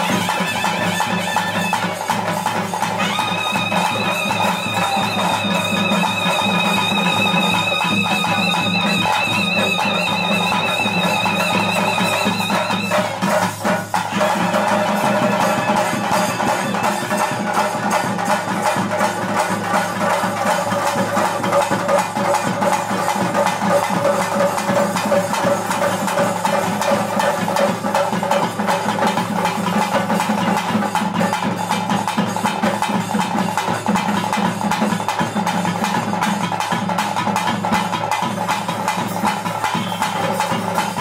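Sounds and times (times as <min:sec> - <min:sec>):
fast dense drumming: 0:00.0 - 0:41.0.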